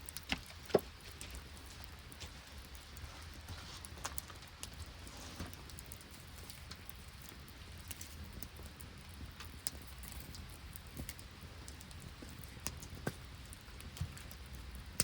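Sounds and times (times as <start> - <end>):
campfire crackling and popping: 0.0 - 15.0
rain and sleet falling: 0.0 - 15.0.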